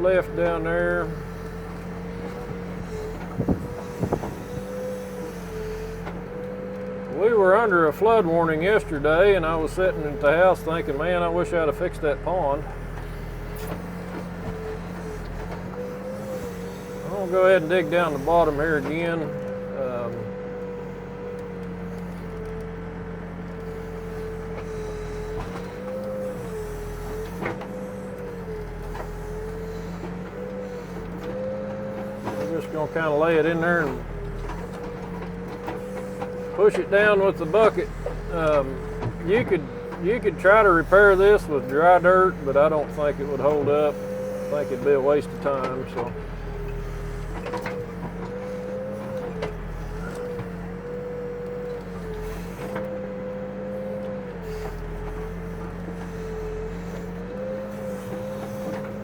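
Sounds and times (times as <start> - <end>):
backhoe engine with hydraulic whine: 0.0 - 59.0.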